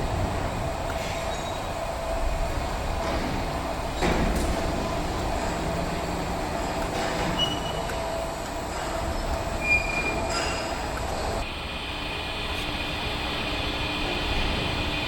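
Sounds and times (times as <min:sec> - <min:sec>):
welding rotator mechanical rumble: 0:00.0 - 0:15.0.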